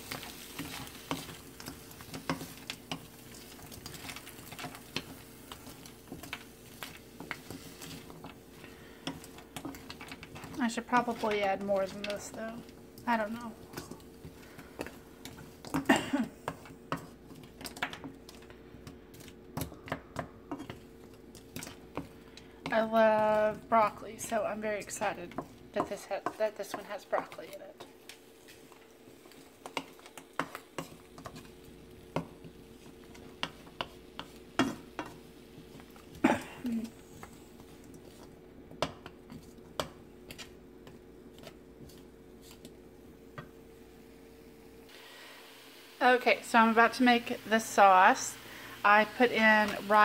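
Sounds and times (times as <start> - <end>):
faint steady hum: 0.0 - 50.0
vegetables stirred in a wok: 0.0 - 50.0.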